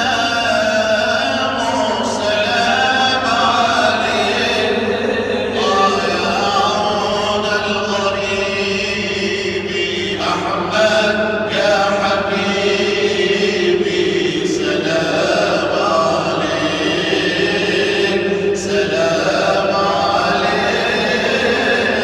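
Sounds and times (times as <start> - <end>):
group chanting: 0.0 - 22.0.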